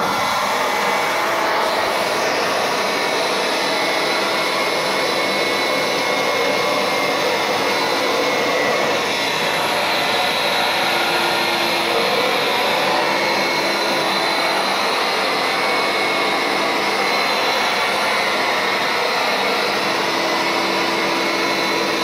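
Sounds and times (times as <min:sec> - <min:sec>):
carpet cleaner suction: 0:00.0 - 0:22.0.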